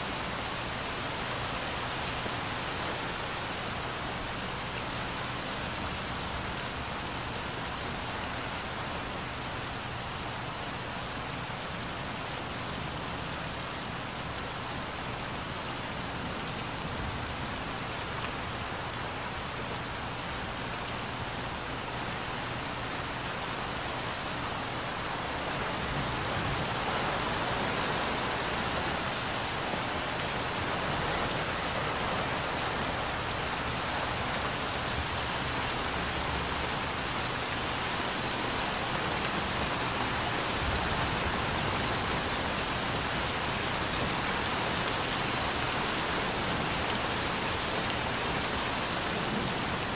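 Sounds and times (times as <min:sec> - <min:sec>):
rain on water and paving: 0:00.0 - 0:49.9.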